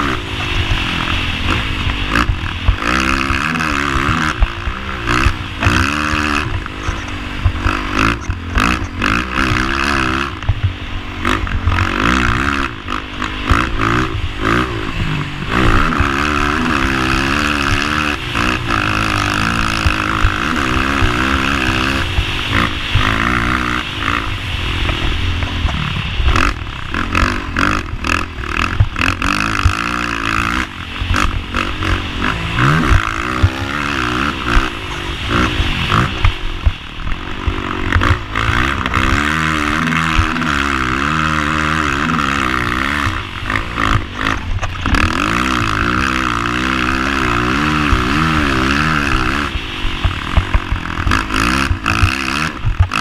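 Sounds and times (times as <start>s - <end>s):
quad engine revving: 0.0s - 53.0s.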